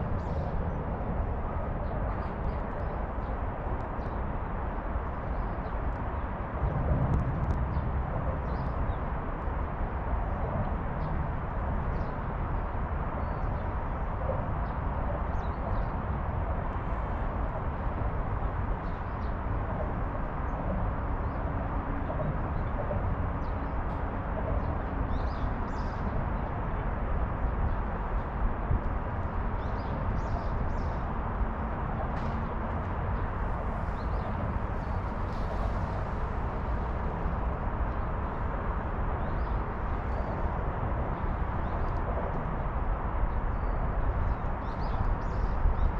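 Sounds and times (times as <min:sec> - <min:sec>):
steady low rumble: 0:00.0 - 0:45.9.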